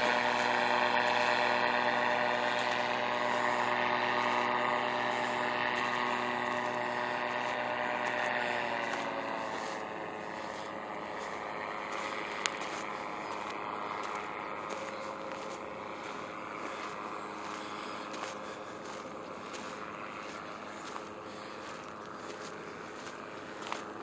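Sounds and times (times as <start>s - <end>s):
paramotor droning overhead: 0.0s - 24.0s.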